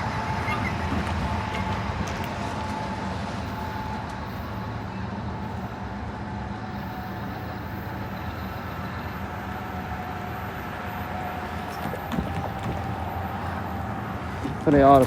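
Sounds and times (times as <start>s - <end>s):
faint high squeal: 0.0s - 14.7s
train wheels rumbling on rail: 0.0s - 15.0s.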